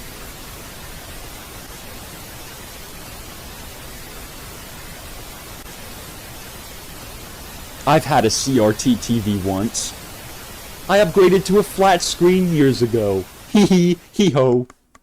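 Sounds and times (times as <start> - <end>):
steady white noise: 0.0 - 15.0.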